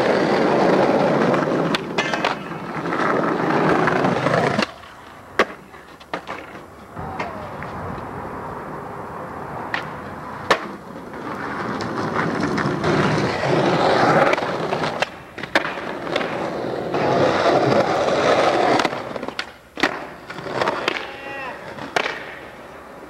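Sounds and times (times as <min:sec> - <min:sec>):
skateboard clacks: 0:00.0 - 0:08.1, 0:09.6 - 0:23.0
skateboard wheels rolling on concrete: 0:00.0 - 0:23.0.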